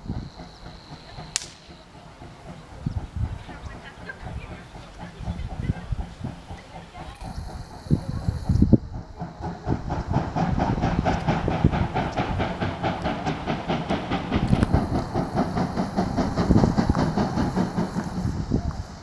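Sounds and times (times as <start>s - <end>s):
steam train fast regular beat: 0.0s - 19.0s
steam train rumble: 0.0s - 19.0s.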